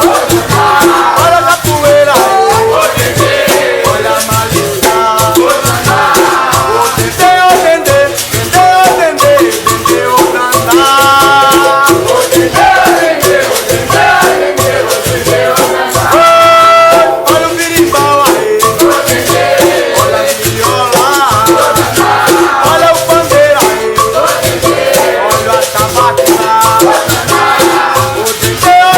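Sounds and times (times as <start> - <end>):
berimbau: 0.0 - 28.9
people singing: 0.0 - 28.9
percussion: 0.0 - 28.9
shaker rattling: 0.0 - 28.9.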